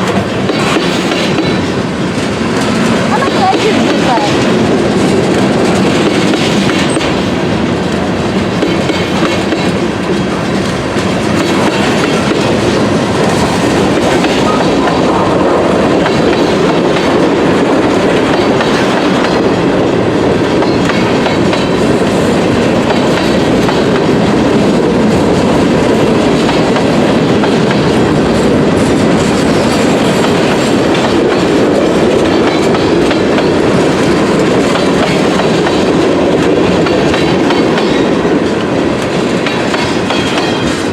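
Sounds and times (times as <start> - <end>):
freight train rumbling past: 0.0 - 40.9
wheels clacking over rail joints: 0.0 - 40.9.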